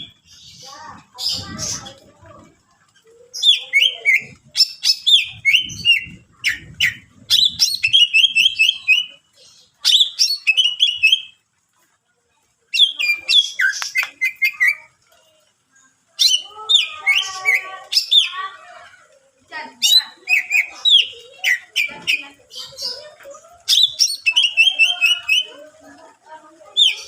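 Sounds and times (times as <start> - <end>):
bird chirping and trilling: 0.0 - 11.5, 12.7 - 27.0.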